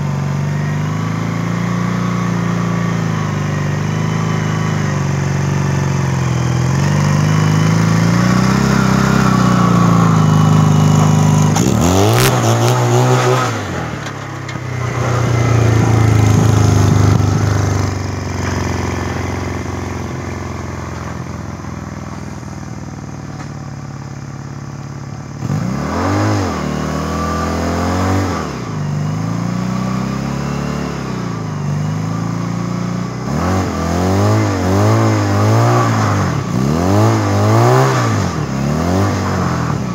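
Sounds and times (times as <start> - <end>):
engine revving: 0.0 - 23.5, 25.3 - 39.9.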